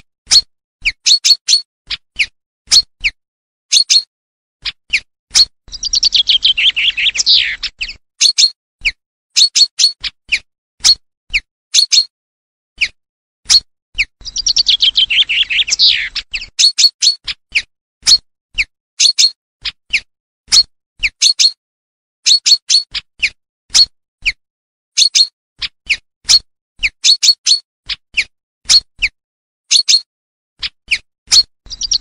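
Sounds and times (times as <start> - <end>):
chaffinch song: 0.0 - 12.1, 12.8 - 21.6, 25.0 - 32.0.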